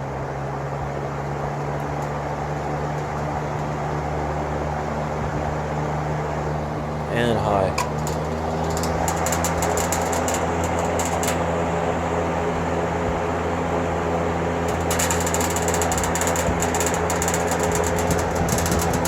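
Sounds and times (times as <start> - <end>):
box fan motor hum with rushing air: 0.0 - 19.0
fan grille clicking rattle: 0.4 - 19.0.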